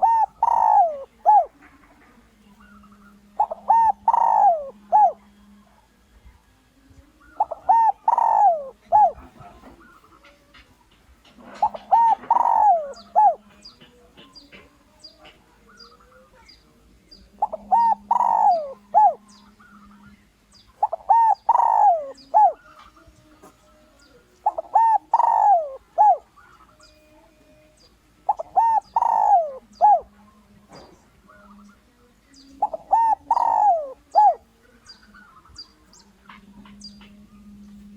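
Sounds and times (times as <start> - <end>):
dove cooing: 0.0 - 37.9
small birds chirping: 0.0 - 37.9.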